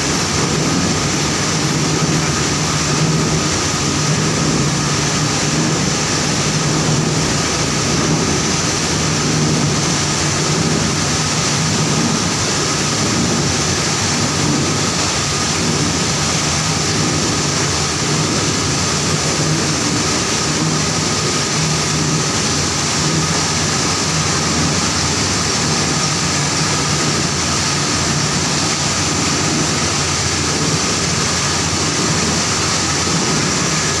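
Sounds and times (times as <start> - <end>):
milling machinery running: 0.0 - 34.0.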